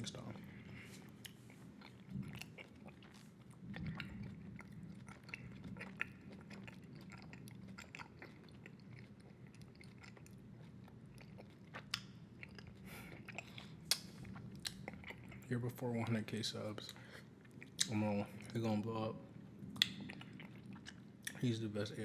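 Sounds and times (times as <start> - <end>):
wet chewing of bubble gum: 0.0 - 21.4.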